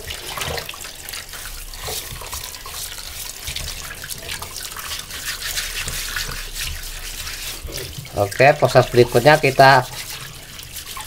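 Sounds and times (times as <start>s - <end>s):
hands scrubbing: 0.0s - 11.0s
tap water splashing into sink: 0.0s - 11.0s.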